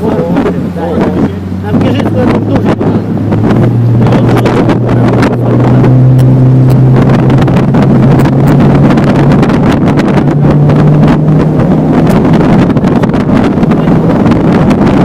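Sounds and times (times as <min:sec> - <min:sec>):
motorboat engine running: 0:00.0 - 0:15.0
water rushing past hull: 0:00.0 - 0:15.0
wind buffeting microphone: 0:00.0 - 0:15.0.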